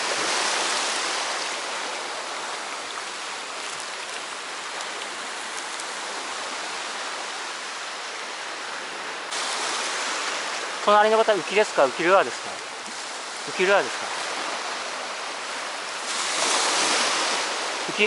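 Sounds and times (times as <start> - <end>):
sea surf washing on shore: 0.0 - 18.0.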